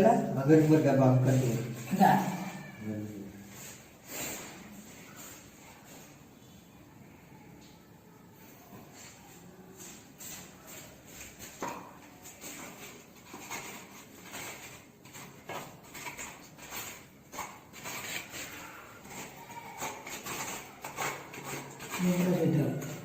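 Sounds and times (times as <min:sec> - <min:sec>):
hand tools scraping and rubbing: 0:00.4 - 0:02.8, 0:03.4 - 0:06.2, 0:08.9 - 0:23.0.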